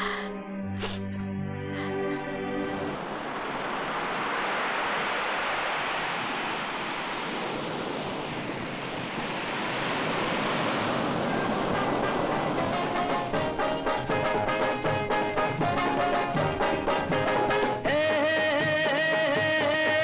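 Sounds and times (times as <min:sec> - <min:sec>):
ocean surf on beach: 0:01.7 - 0:20.0.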